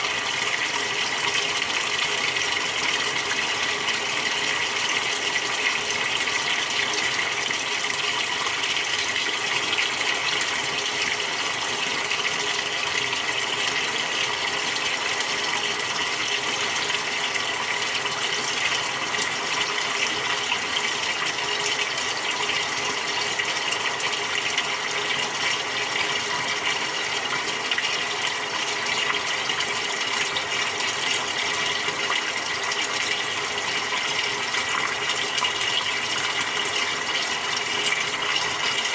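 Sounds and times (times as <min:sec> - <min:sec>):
water running in washing machine: 0:00.0 - 0:38.9.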